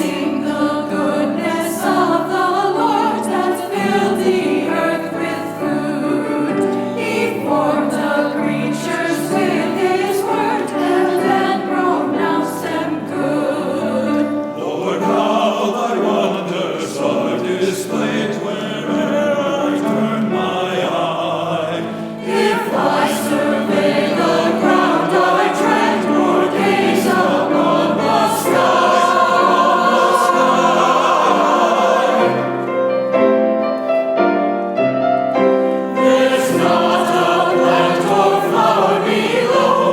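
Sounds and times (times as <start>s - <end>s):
choir singing: 0.0s - 34.7s, 35.4s - 39.9s.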